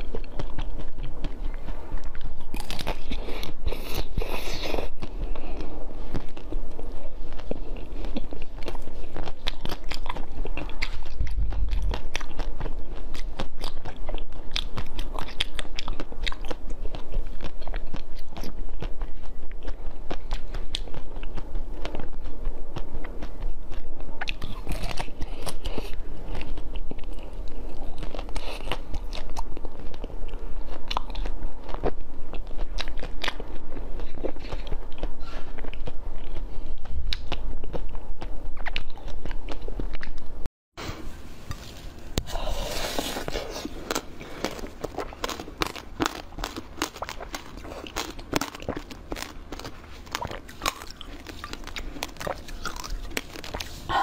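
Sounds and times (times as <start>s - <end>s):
biting and chewing food: 0.0s - 54.0s.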